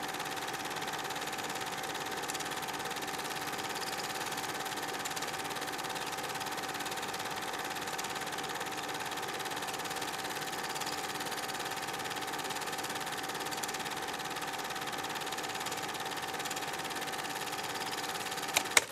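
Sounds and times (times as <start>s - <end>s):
film projector running: 0.0s - 18.9s.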